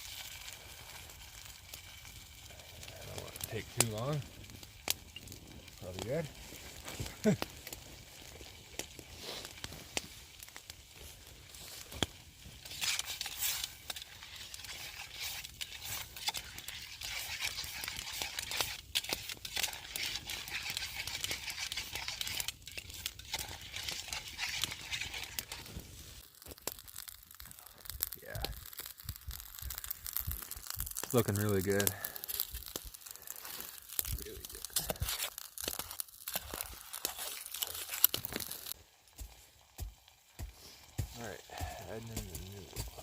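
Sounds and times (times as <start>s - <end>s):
campfire hissing and crackling: 0.0s - 43.0s.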